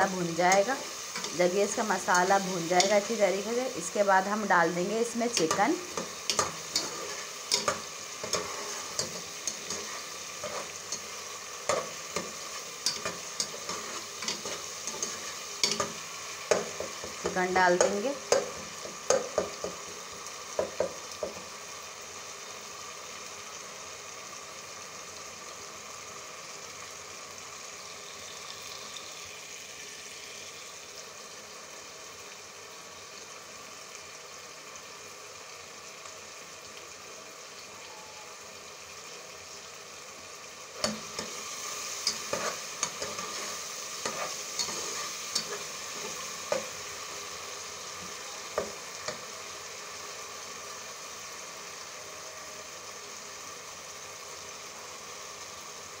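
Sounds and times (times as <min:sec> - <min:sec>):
masala sizzling in a pot: 0:00.0 - 0:56.0.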